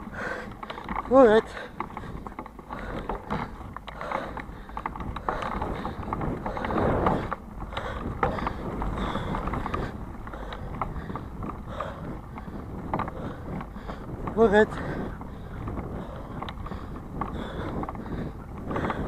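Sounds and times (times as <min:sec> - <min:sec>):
bicycle rattling and clicking: 0:00.0 - 0:19.0
tyres rolling on dirt: 0:00.0 - 0:19.0.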